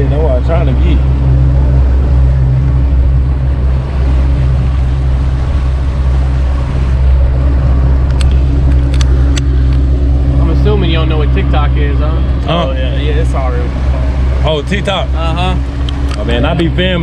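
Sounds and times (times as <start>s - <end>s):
motorboat engine droning: 0.0s - 17.0s
water rushing past hull: 0.0s - 17.0s.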